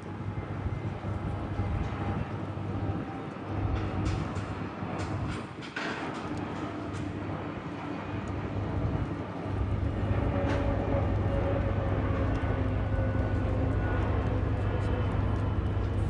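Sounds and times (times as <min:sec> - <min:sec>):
airliner engine noise: 0:00.0 - 0:16.0.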